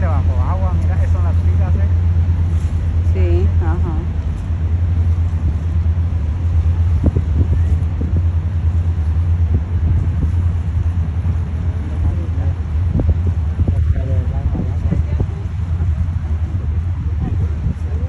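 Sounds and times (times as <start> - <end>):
boat engine low rumble: 0.0 - 18.0.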